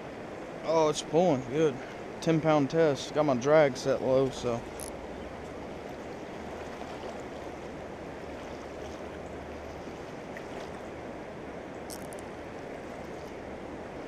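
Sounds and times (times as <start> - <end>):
river current rushing: 0.0 - 14.0.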